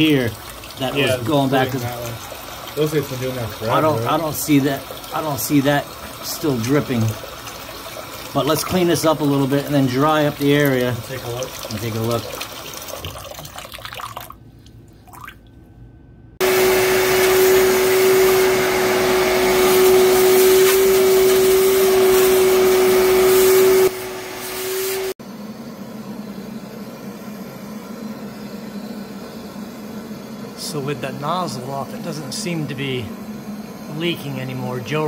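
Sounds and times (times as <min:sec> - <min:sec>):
vacuum cleaner running: 0:00.0 - 0:12.5, 0:16.4 - 0:35.0.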